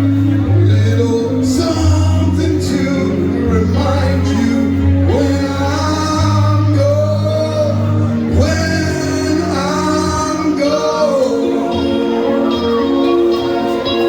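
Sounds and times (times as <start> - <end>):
backing band playing: 0.0 - 14.0
man singing: 0.2 - 13.1.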